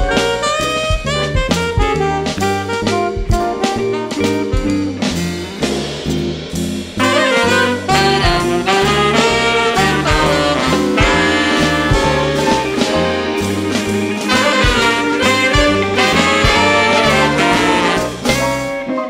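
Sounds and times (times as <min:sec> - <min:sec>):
jazz ensemble playing: 0:00.0 - 0:19.0.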